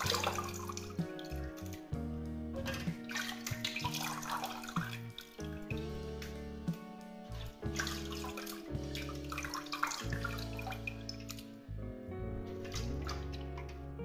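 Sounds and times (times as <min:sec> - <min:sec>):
food rinsed by hand: 0:00.0 - 0:11.6, 0:12.6 - 0:13.8
background music with held notes: 0:00.0 - 0:14.0.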